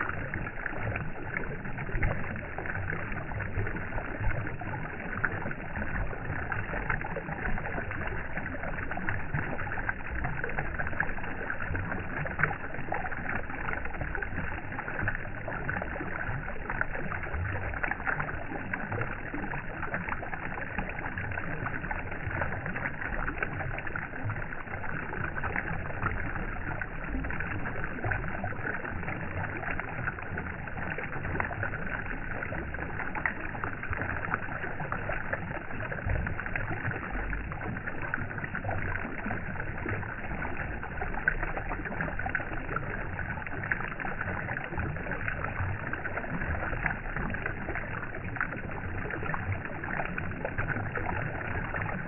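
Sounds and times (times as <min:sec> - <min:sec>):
water noise: 0:00.0 - 0:52.0.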